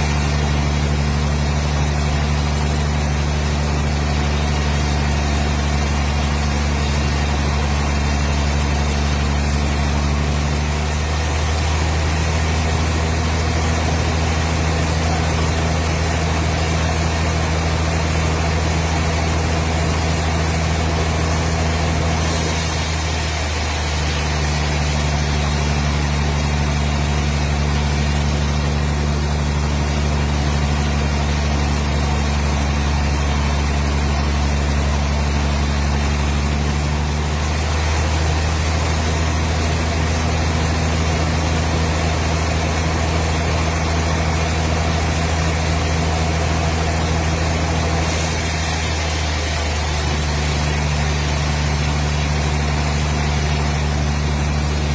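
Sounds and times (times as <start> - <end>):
engine humming steadily: 0.0 - 54.9.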